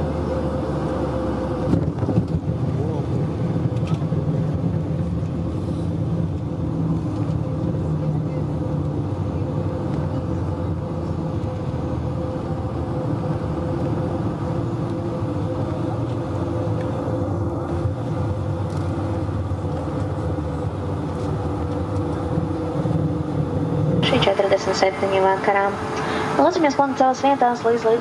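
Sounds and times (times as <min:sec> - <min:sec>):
jet engines humming: 0:00.0 - 0:28.0
low cabin rumble: 0:00.0 - 0:28.0.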